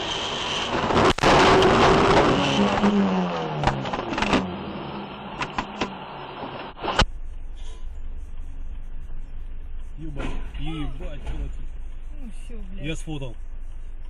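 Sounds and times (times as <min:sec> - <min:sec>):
vehicle engine and tyre noise: 0:00.0 - 0:14.0.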